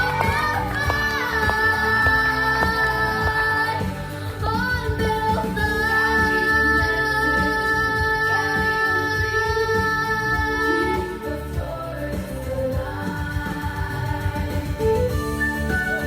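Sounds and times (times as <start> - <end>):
choir of young voices singing: 0.0 - 16.0
instrumental backing: 0.0 - 16.0.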